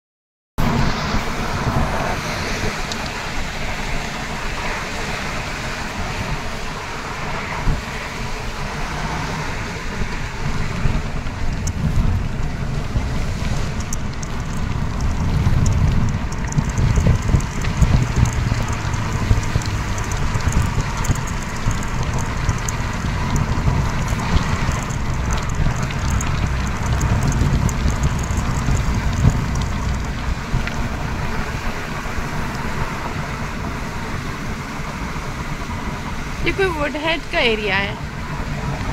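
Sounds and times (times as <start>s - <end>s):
car road noise from inside: 0.6s - 38.9s.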